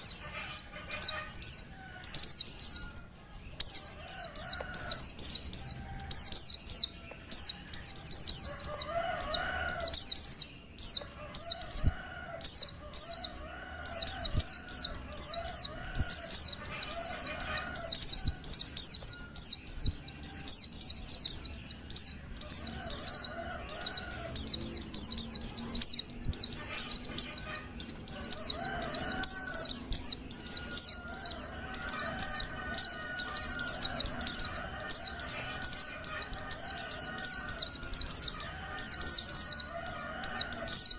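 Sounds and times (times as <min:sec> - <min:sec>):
fainter lower bird calls: 0:00.0 - 0:40.9
high thin bird chirps: 0:00.0 - 0:40.9.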